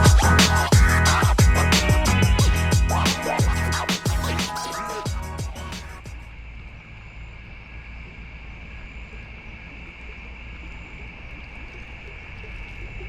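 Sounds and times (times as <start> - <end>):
high-pitched drone: 0.0 - 13.0.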